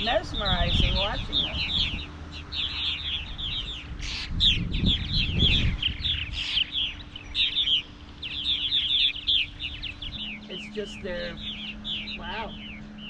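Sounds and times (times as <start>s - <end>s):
low rumble: 0.0s - 13.0s
martins chirping: 0.0s - 13.0s.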